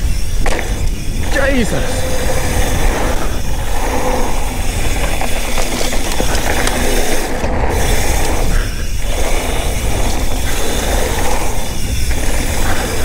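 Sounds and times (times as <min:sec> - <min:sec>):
bike clicks and rattles: 0:00.0 - 0:13.0
tyres rolling on dirt: 0:00.0 - 0:13.0
wind rushing: 0:00.0 - 0:13.0.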